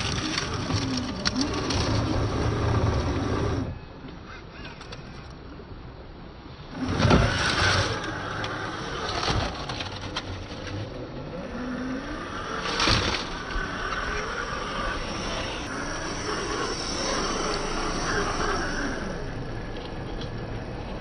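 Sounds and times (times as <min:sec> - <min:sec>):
electric motor and gearbox whining: 0:00.0 - 0:03.8, 0:06.7 - 0:21.0.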